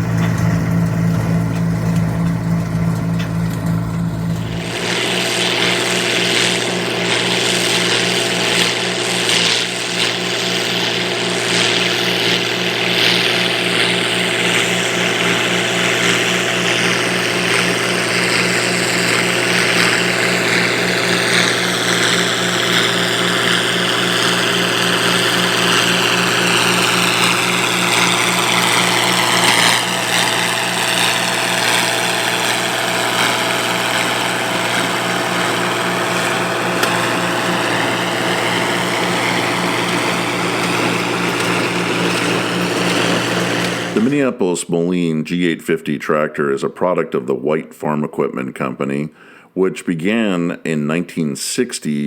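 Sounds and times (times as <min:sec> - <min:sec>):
tractor engine running: 0:00.0 - 0:44.4
hay baler working: 0:00.0 - 0:44.5.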